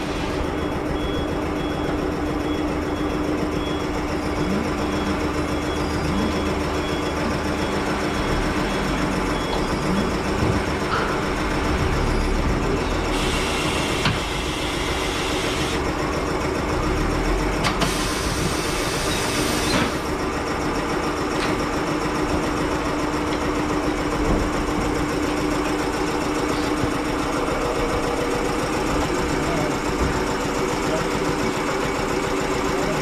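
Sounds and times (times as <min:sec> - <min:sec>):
machinery running: 0:00.0 - 0:33.0.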